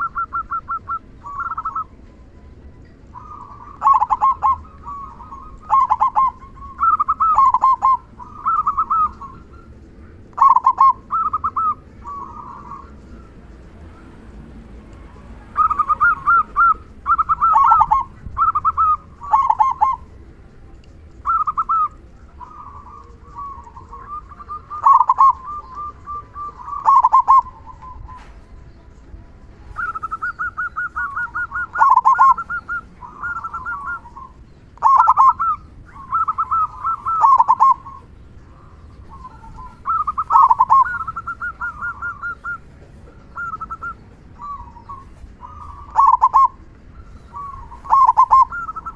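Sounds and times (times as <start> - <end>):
dove cooing: 0.0 - 2.2, 3.0 - 20.3, 21.0 - 48.9.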